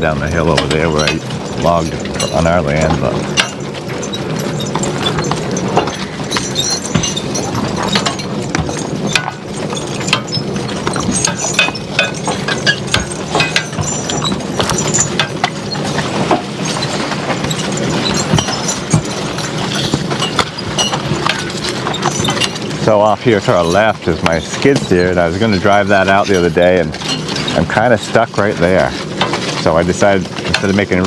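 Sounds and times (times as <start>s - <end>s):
wagon clattering and creaking: 0.0s - 31.0s
wagon wheels rolling rumble: 0.0s - 31.0s.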